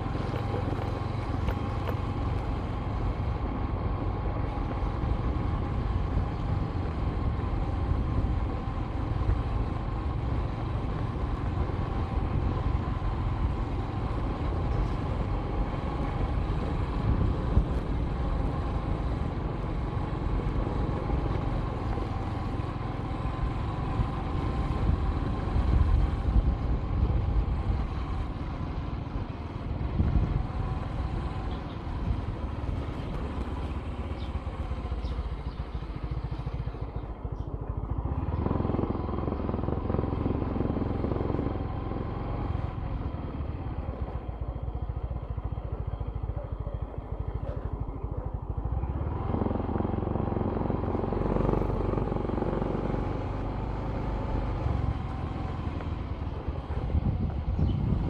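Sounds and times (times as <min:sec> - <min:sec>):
vehicle engine and road rumble: 0:00.0 - 0:58.0.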